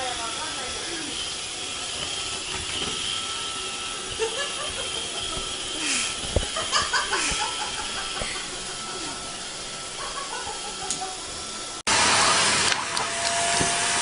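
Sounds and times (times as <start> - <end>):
vacuum cleaner motor whining: 0.0 - 14.0.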